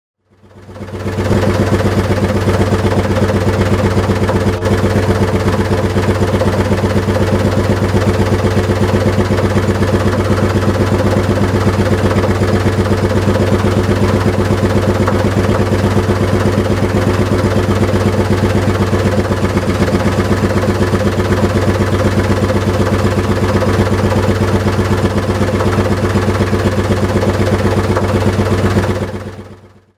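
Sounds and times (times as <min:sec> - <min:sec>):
two-stroke boat engine running: 0:00.2 - 0:29.9.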